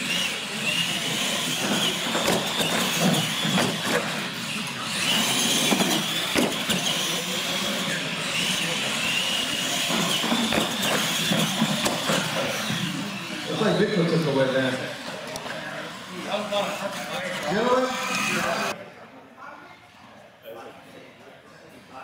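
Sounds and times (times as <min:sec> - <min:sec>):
rc truck motor whine: 0:00.0 - 0:18.8.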